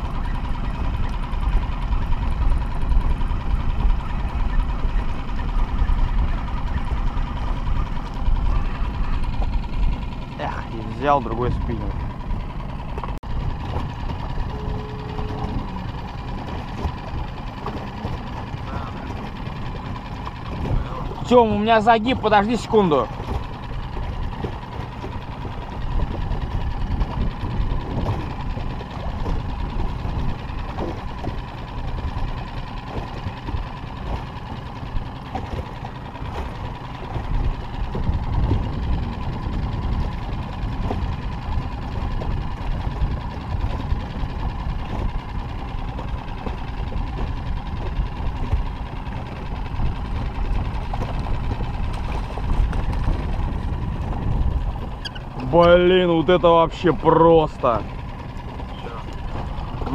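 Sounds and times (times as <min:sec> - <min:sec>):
small waves against boat: 0:00.0 - 0:59.9
wind buffeting microphone: 0:00.0 - 0:59.9.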